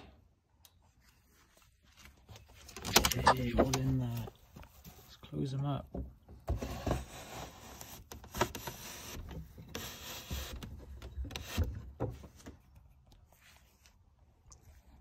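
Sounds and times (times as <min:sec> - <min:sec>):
wood rubbing and scraping: 0:01.0 - 0:14.0.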